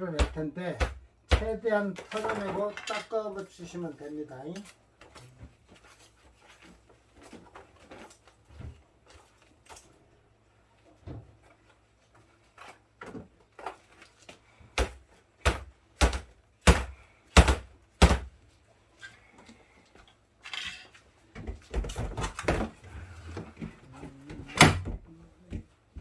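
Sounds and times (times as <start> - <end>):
rustling and clatter: 1.9 - 15.4, 17.9 - 26.0.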